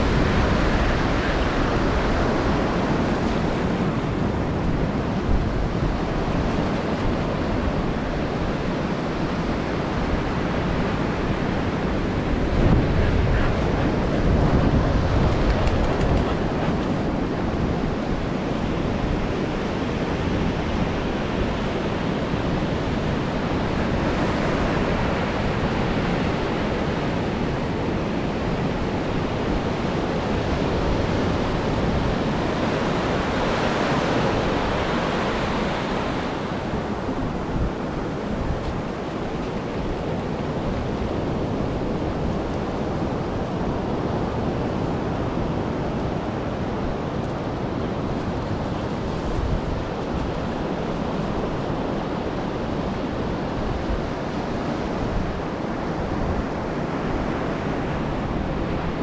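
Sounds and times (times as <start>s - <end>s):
ocean surf washing on beach: 0.0s - 59.0s
wind rumbling on microphone: 0.0s - 59.0s.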